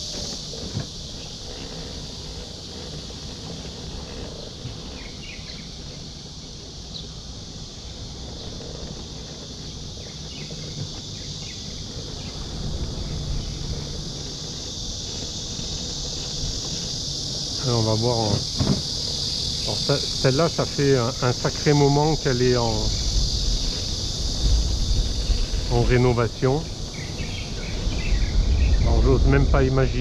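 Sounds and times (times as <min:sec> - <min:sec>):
insects droning: 0:00.0 - 0:30.0
wind and road rumble: 0:00.0 - 0:30.0.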